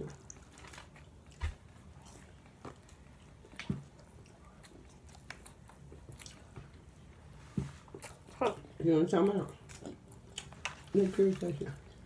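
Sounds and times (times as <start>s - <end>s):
person chewing food: 0.0s - 8.8s, 9.4s - 12.0s.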